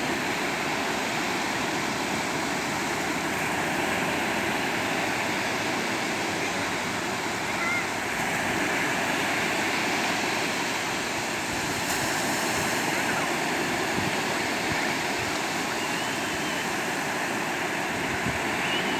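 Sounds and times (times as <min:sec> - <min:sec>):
sea surf washing onto shore: 0:00.0 - 0:18.9.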